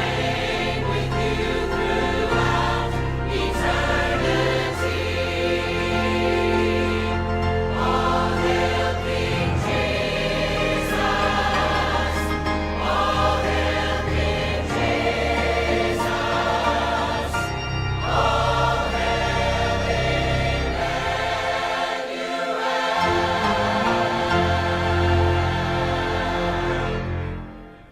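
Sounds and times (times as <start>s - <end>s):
choir singing worship song: 0.0s - 27.9s
instrumental accompaniment: 0.0s - 27.9s.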